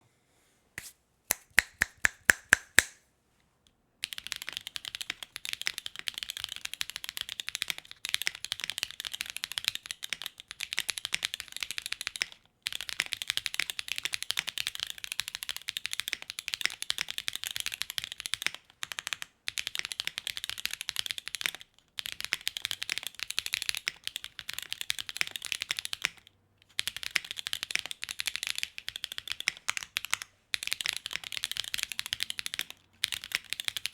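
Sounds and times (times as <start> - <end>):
mechanical keyboard typing: 4.0 - 33.9.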